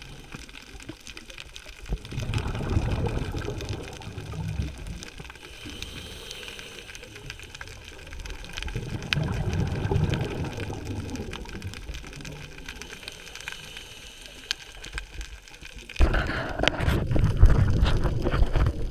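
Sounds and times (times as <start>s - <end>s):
sharp clicks and crackles: 0.0s - 18.9s
underwater rumbling wash: 1.6s - 18.9s.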